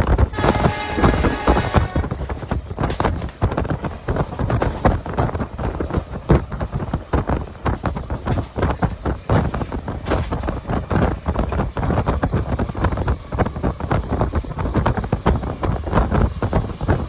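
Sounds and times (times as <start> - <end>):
train coach rattling: 0.0 - 17.0
wheels rolling on rails: 0.0 - 17.0
wind buffeting microphone: 0.0 - 17.0.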